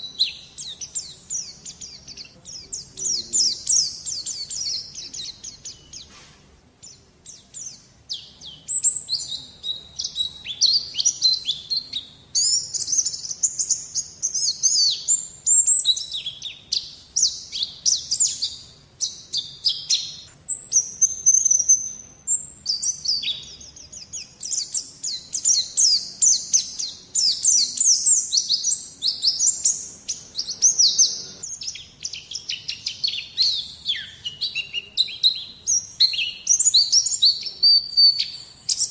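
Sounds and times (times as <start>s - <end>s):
bird twittering: 0.0s - 6.2s, 6.8s - 38.9s.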